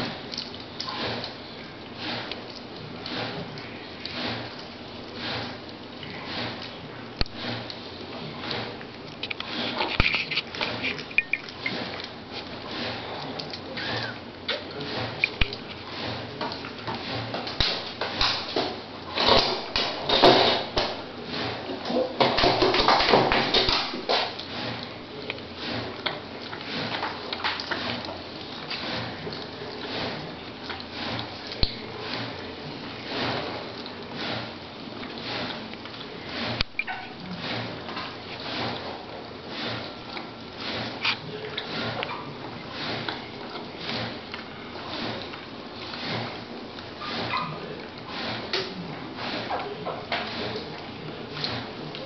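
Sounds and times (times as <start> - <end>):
puppies suckling and snuffling: 0.0 - 52.0.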